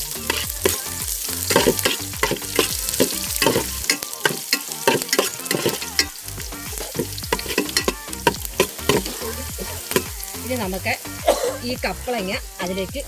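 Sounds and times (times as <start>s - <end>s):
food sizzling in oil: 0.0s - 13.0s
spoon scraping a pan: 0.1s - 10.6s.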